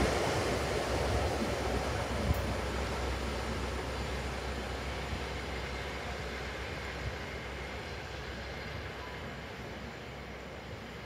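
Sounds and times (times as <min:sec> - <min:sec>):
diesel train engine rumble: 0:00.0 - 0:11.0
train wheels on rails: 0:00.0 - 0:11.0.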